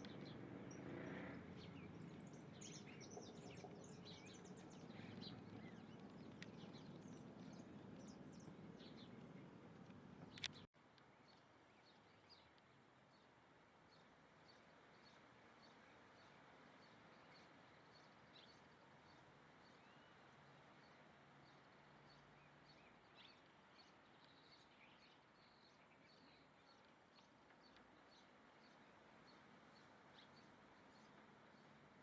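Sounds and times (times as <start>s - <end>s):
small birds chirping: 0.0s - 13.3s, 13.9s - 31.8s.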